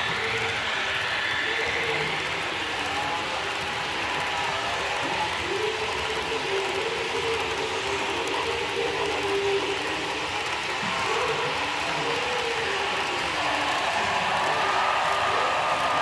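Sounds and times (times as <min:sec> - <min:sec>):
model train clattering on track: 0:00.0 - 0:16.0.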